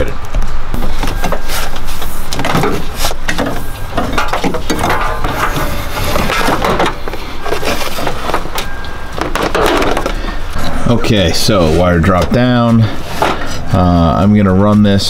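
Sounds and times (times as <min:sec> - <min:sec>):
cable rustling and scraping: 0:00.8 - 0:13.8.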